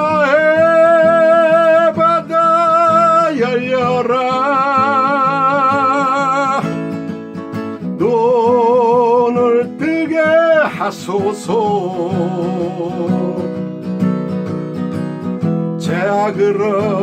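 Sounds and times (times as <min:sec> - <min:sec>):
person singing with vibrato: 0:00.0 - 0:06.9, 0:07.9 - 0:13.7, 0:15.8 - 0:17.0
strummed acoustic guitar: 0:00.0 - 0:17.0.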